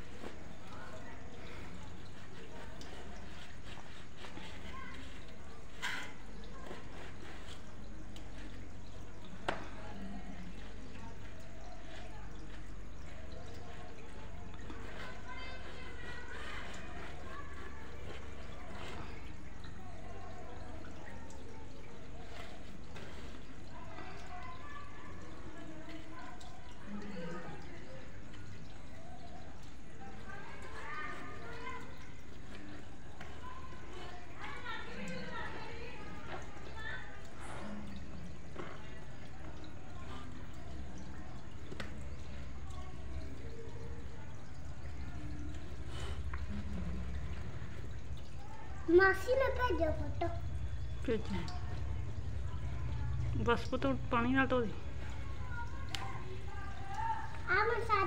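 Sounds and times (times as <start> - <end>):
low background hum: 0.0 - 57.9
soapy squelching and dripping: 0.0 - 58.0.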